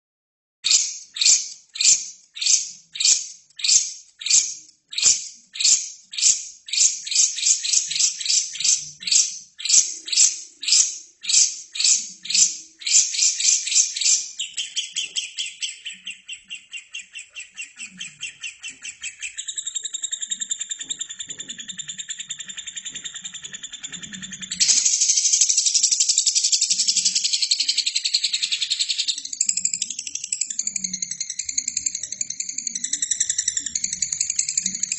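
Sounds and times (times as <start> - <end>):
lovebird chirping and trilling: 0.6 - 34.9.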